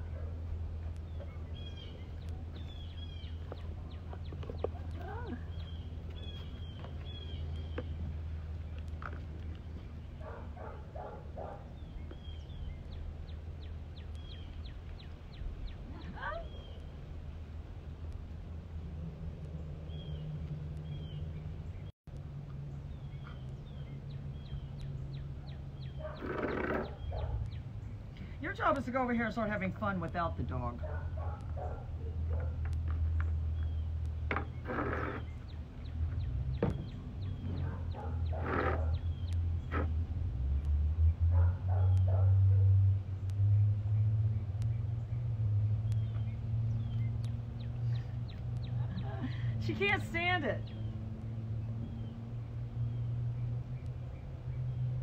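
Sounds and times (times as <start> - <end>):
birds chirping and trilling: 0.0 - 17.4, 19.4 - 21.9, 22.6 - 29.4, 30.2 - 40.2, 41.0 - 55.0.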